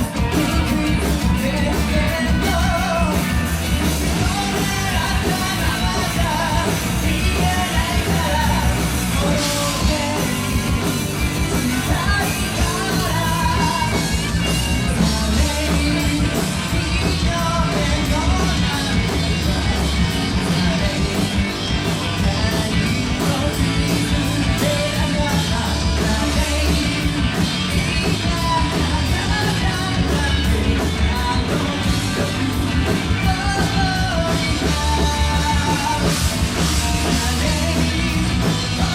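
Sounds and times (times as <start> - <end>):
loud drums: 0.0 - 38.9
person singing: 0.0 - 38.9
rock band playing live: 0.0 - 38.9.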